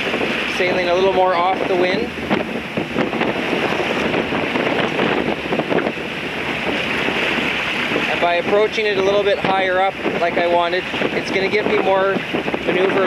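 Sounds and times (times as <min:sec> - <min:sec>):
bow wave splashing along hull: 0:00.0 - 0:13.0
wind buffeting microphone: 0:00.0 - 0:13.0.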